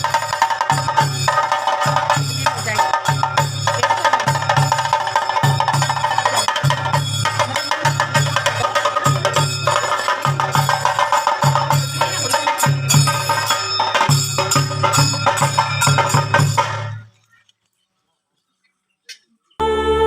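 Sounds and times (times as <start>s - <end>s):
rhythmic percussion music: 0.0s - 17.1s.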